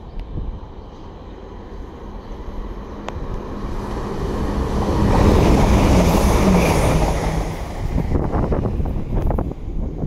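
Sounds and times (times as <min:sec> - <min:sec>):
diesel train engine hum: 0:00.0 - 0:10.0
train wheels rushing on rails: 0:01.4 - 0:10.0.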